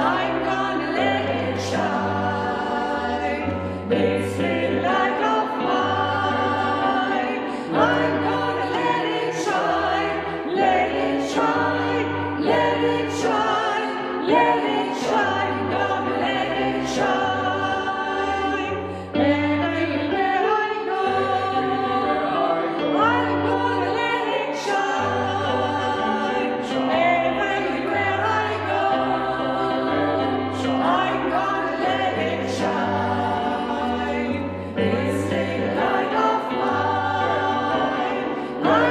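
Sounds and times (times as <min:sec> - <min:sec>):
choir singing in parts: 0:00.0 - 0:38.9.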